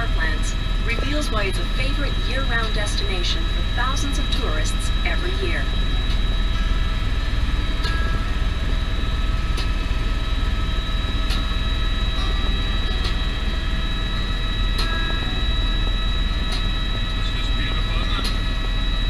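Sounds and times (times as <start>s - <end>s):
helicopter rotor and turbine drone: 0.0s - 19.0s
high turbine whine: 0.0s - 19.0s.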